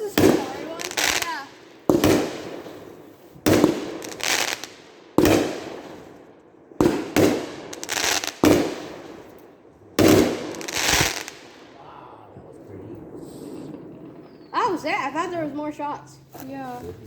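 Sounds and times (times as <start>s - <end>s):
firework bangs and crackle: 0.0s - 15.9s.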